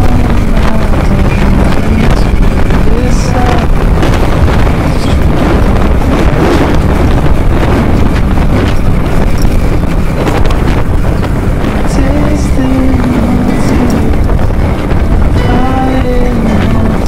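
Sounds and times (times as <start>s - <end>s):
motorcycle running on road: 0.0s - 17.0s
wind buffeting microphone: 0.0s - 17.0s.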